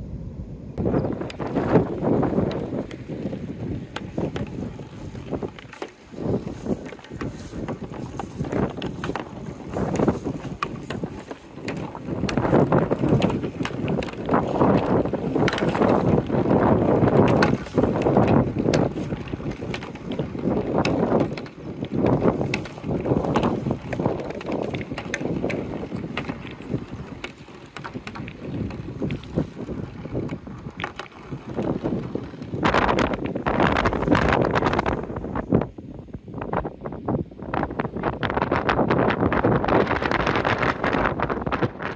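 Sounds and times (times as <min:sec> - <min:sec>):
marbles rolling in plastic chutes: 0:01.2 - 0:35.0.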